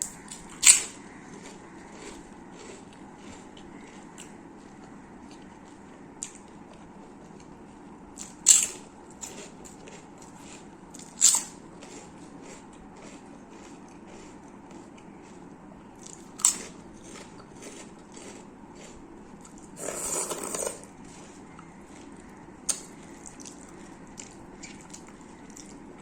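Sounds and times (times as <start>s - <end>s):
chewing with wet mouth clicks: 0.0s - 7.6s, 8.2s - 19.8s, 21.0s - 26.0s
food crunching: 0.0s - 26.0s.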